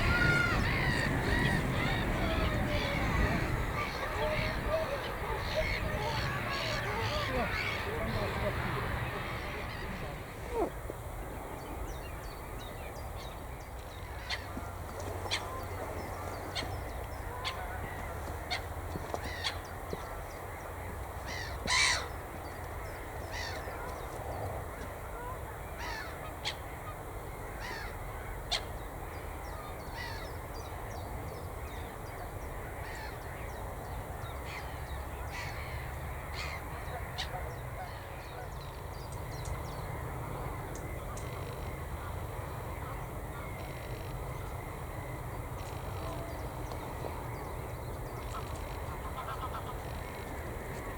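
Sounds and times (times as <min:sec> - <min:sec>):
wild birds calling: 0:00.0 - 0:50.9.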